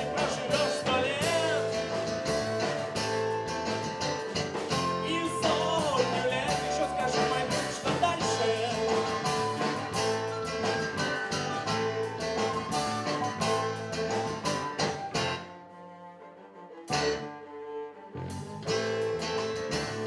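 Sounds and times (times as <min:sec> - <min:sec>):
rock band playing live: 0:00.0 - 0:15.6, 0:16.9 - 0:17.4, 0:18.2 - 0:20.0.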